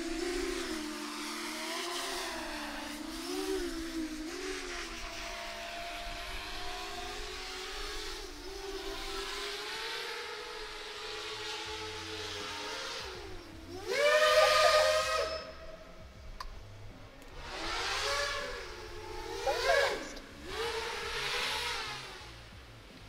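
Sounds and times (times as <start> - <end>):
quadcopter motors whining: 0.0 - 22.9.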